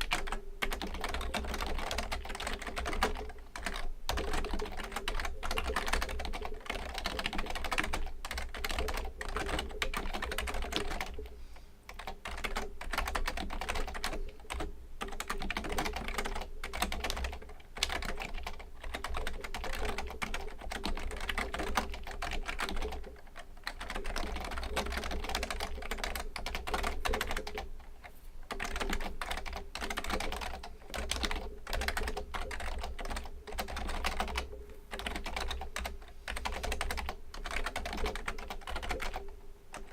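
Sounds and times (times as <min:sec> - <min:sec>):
fast typing on keyboard: 0:00.0 - 0:11.3, 0:11.9 - 0:39.9.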